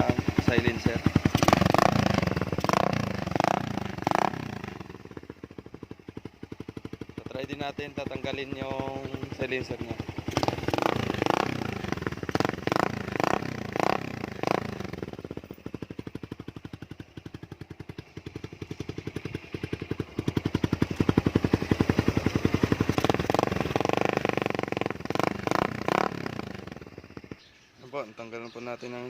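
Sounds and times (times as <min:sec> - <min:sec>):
motorcycle engine revving and idling: 0:00.0 - 0:29.0.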